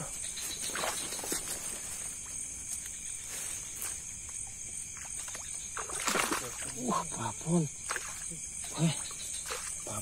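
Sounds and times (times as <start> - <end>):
night insects chirring: 0.0 - 10.0.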